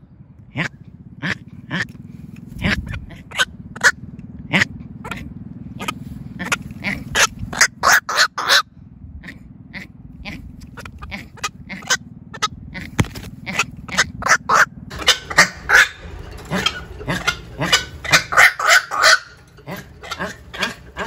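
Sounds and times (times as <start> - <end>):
heron calling: 1.2 - 8.6, 10.3 - 21.0.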